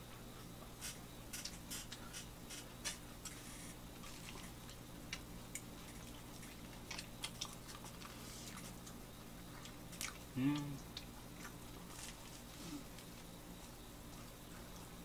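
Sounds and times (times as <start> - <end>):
low steady hum: 0.0 - 15.0
people chewing crunchy food: 0.4 - 15.0.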